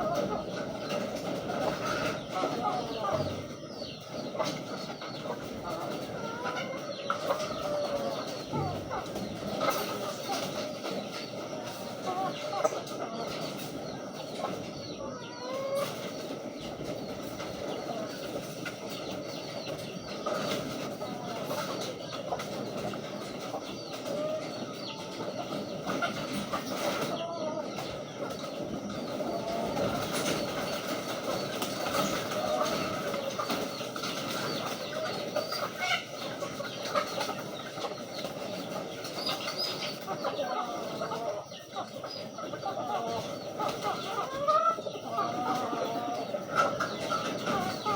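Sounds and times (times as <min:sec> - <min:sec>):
pigeons calling: 0:00.0 - 0:47.9.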